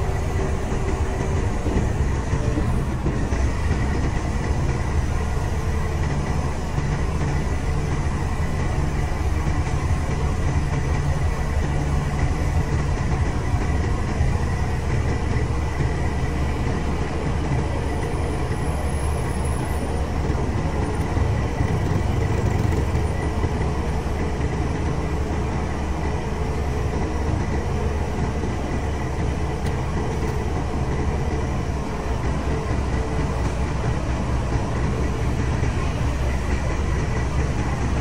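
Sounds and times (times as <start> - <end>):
diesel engine rumbling: 0.0 - 38.0.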